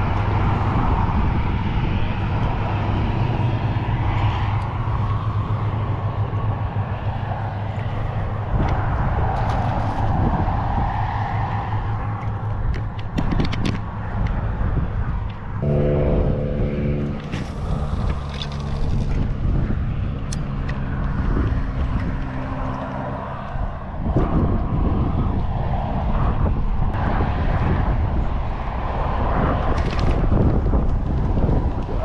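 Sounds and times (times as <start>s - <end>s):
strong wind on microphone: 0.0s - 32.0s.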